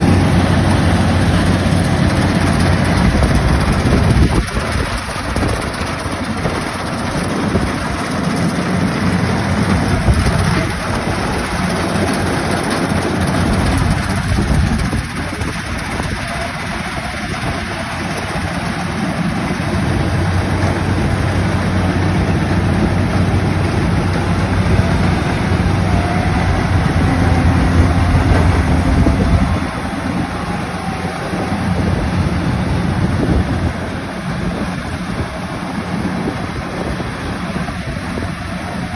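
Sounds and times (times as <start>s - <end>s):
engine humming: 0.0s - 38.9s.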